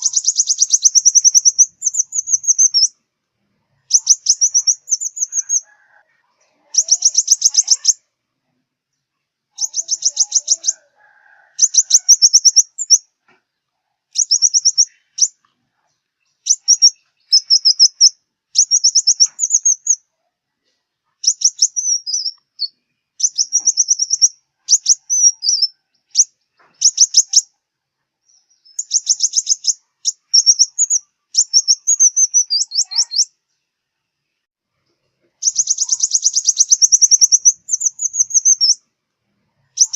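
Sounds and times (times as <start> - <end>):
bird song with rapid trills: 0.0 - 3.0, 3.8 - 5.6, 6.6 - 8.1, 8.9 - 10.8, 11.6 - 13.1, 14.1 - 20.1, 21.1 - 27.6, 28.2 - 34.5, 35.4 - 38.9, 39.6 - 39.9.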